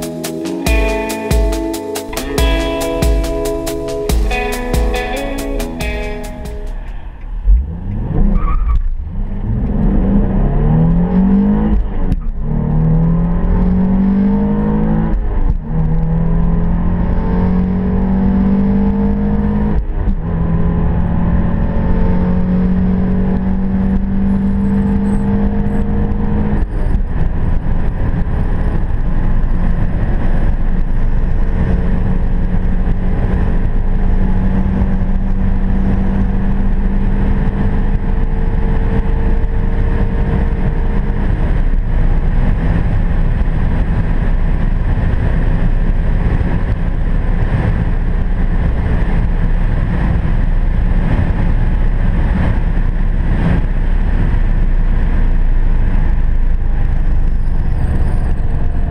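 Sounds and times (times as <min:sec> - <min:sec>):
car engine at full throttle: 0:00.0 - 0:58.9
wind and road noise: 0:00.0 - 0:58.9.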